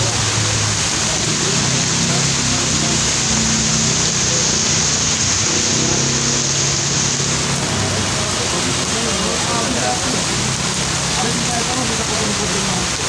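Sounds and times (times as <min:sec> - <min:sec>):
heavy rain on pavement: 0:00.0 - 0:13.0.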